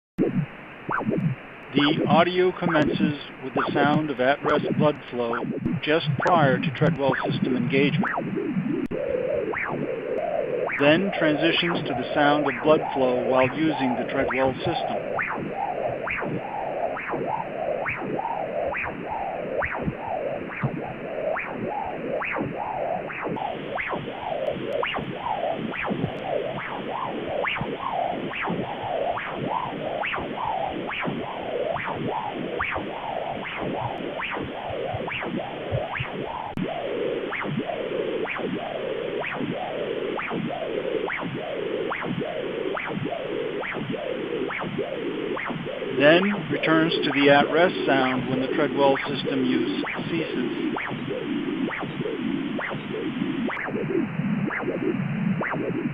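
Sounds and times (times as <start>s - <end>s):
rhythmic blood-flow whooshing pulse: 0.2s - 55.9s.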